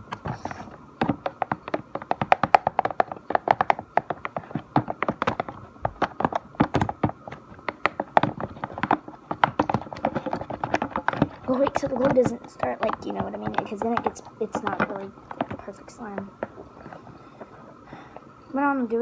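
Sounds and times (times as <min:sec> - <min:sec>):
stick stirring slime: 0:00.0 - 0:02.1, 0:02.7 - 0:18.3.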